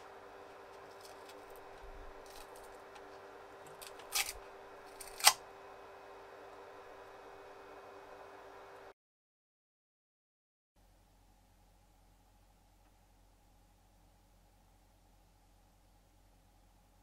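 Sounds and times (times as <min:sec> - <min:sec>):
steady hum: 0:00.0 - 0:09.0, 0:10.8 - 0:17.0.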